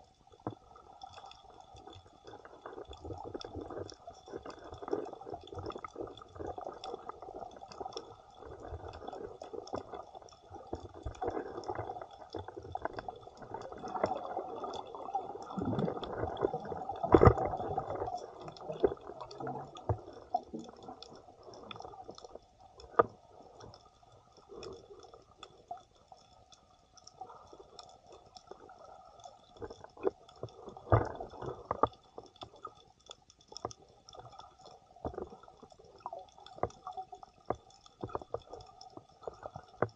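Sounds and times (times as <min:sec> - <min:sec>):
muffled underwater water movement: 0:00.0 - 0:39.9.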